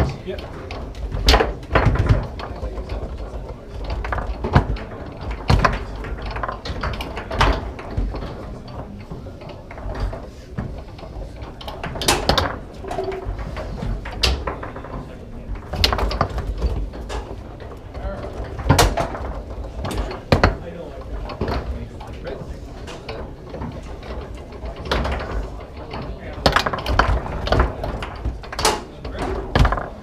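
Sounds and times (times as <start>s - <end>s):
foosball clacking off plastic men: 0.0s - 30.0s
rods and handles rattling: 0.0s - 30.0s.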